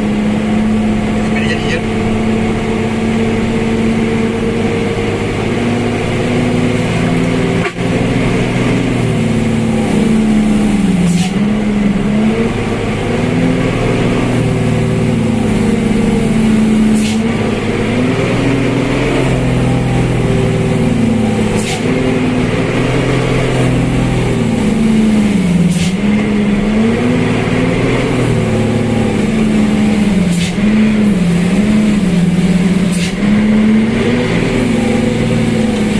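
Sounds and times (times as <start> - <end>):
truck engine under load: 0.0 - 35.9.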